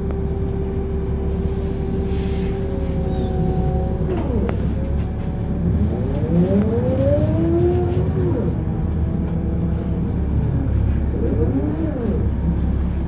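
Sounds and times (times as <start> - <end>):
bus diesel engine accelerating: 0.0 - 13.0.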